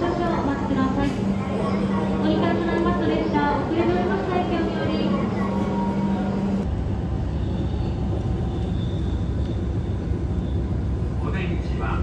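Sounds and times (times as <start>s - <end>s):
low rumble of moving vehicle: 0.0s - 12.0s.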